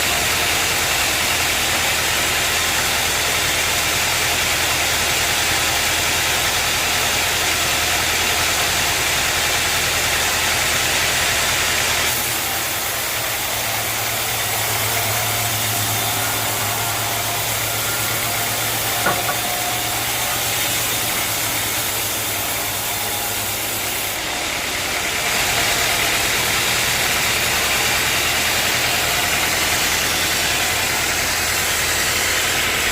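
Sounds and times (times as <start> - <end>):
engine running steadily: 0.0 - 32.9.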